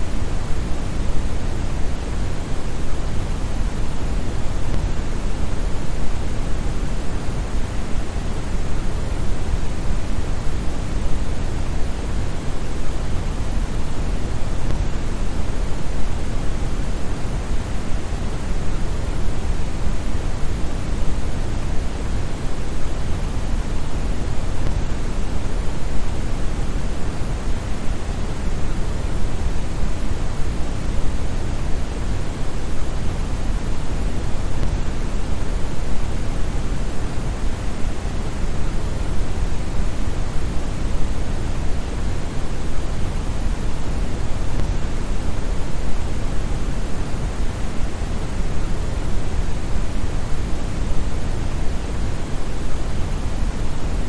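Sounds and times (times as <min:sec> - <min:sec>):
brown noise deep hiss: 0:00.0 - 0:54.0.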